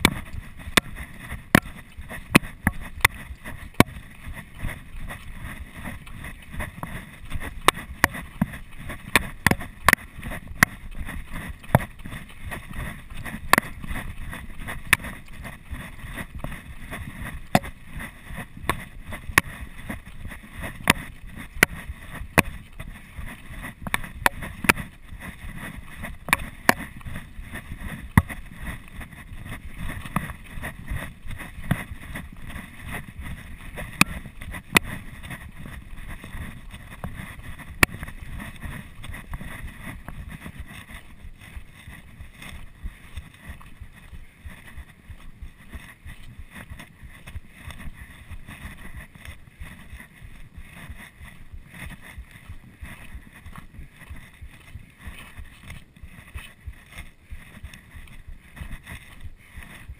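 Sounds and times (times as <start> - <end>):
footsteps on dirt trail: 0.0 - 59.9
steady rushing noise: 0.0 - 59.9.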